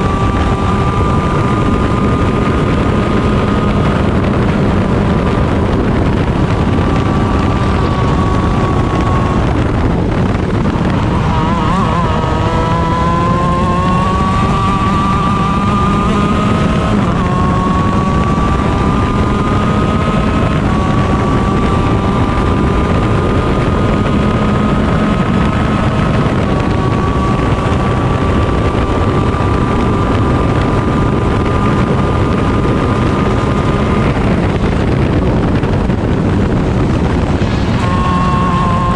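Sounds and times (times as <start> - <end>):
kart engine at race pace: 0.0 - 38.9.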